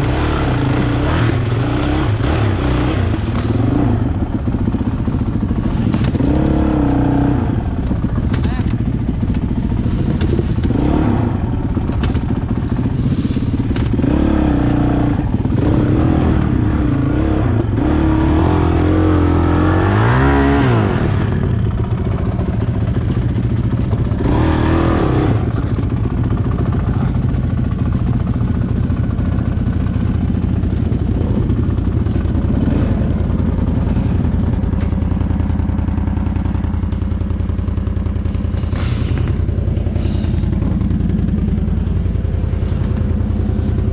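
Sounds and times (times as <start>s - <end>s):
clatter over rough ground: 0.0s - 43.9s
motorcycle engine revving: 0.0s - 43.9s.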